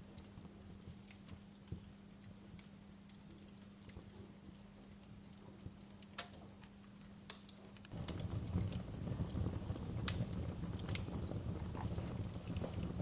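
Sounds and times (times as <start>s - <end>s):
low rumble of burning flames: 0.0s - 13.0s
wood fire crackling and popping: 0.0s - 13.0s.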